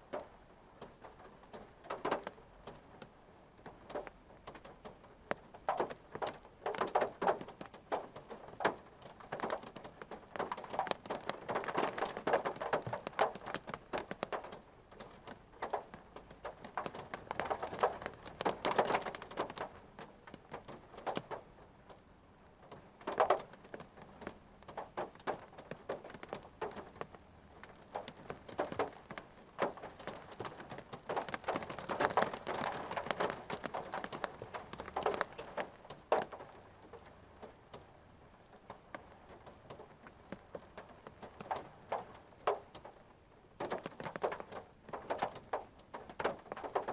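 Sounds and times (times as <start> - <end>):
raindrops tapping on car body: 0.0 - 46.9.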